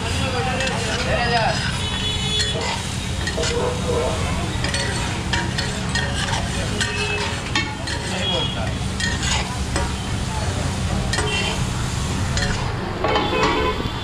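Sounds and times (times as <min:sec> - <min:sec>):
metal spatulas scraping on griddle: 0:00.0 - 0:10.2, 0:11.1 - 0:13.9
food frying sizzle: 0:00.0 - 0:14.0.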